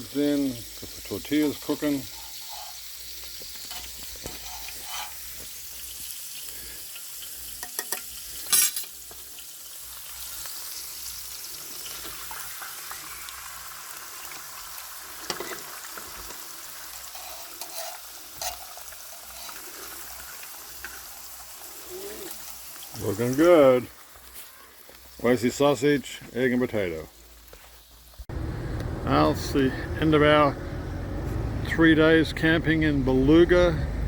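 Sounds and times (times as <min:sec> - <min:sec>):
food sizzling in a pan: 0:00.0 - 0:28.3.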